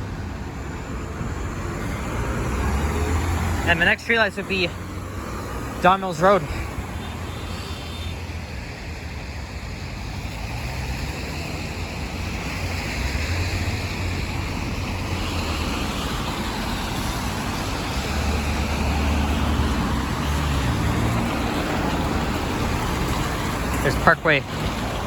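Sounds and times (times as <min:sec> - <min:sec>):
tyres hissing on wet road: 0:00.0 - 0:25.0.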